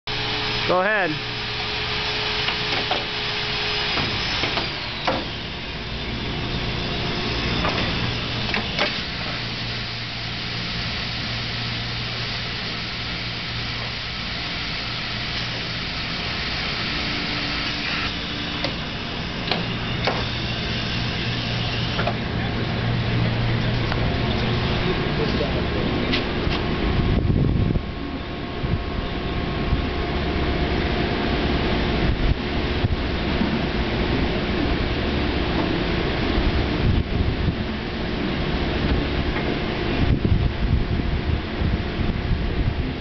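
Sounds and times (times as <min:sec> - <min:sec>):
welding machine hum and hiss: 0:00.1 - 0:43.0.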